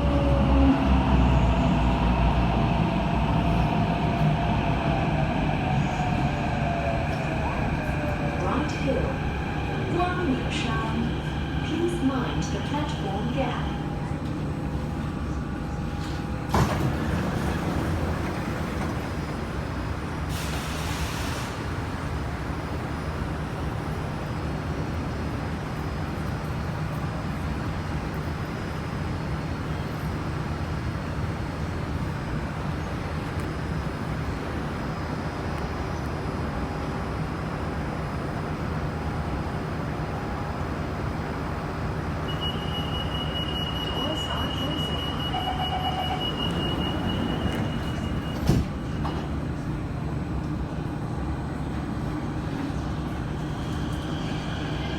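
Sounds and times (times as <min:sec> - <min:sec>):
metro train running rumble: 0:00.0 - 0:54.9.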